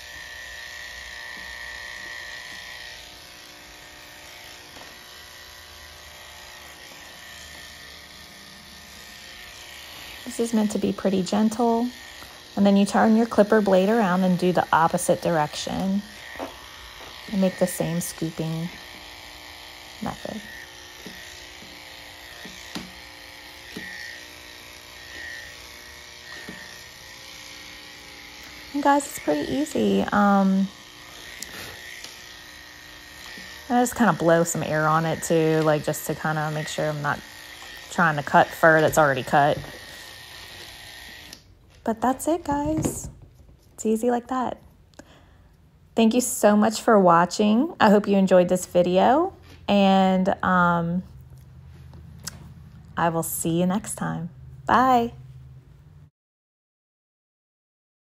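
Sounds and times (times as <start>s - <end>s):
electric clipper whine: 0.0s - 43.1s, 46.1s - 55.2s.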